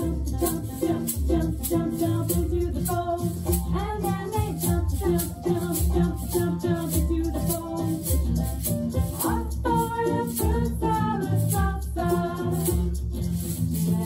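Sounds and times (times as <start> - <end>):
person singing: 0.0 - 8.4, 9.0 - 13.1
maraca shaker beat: 0.0 - 14.0
repeating bass line: 0.0 - 14.0.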